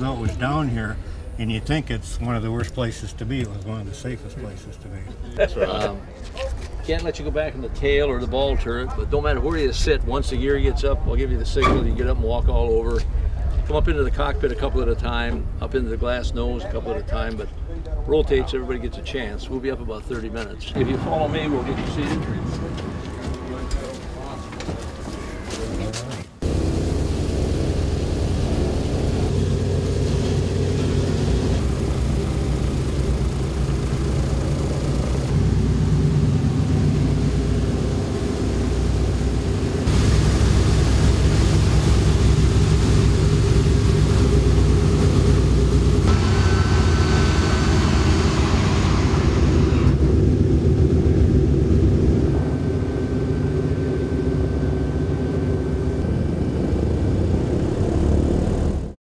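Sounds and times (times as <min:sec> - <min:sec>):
piston aircraft engines droning: 0:00.0 - 0:59.0.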